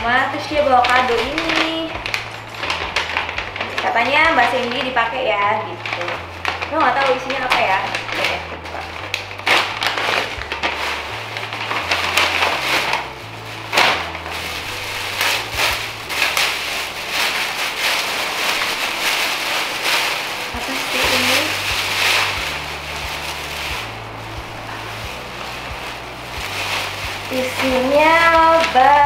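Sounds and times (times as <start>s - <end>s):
background music with bass line: 0.0s - 29.0s
paper crinkling and tearing: 0.0s - 29.0s.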